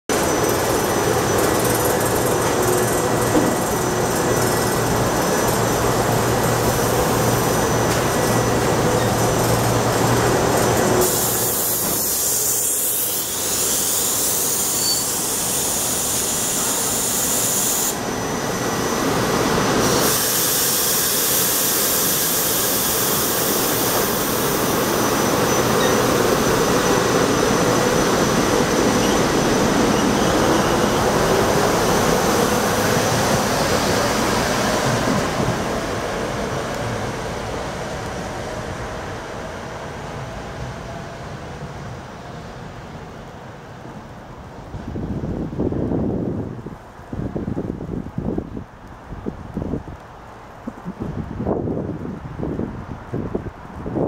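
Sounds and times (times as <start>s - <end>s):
electric train rolling past: 0.1s - 54.0s.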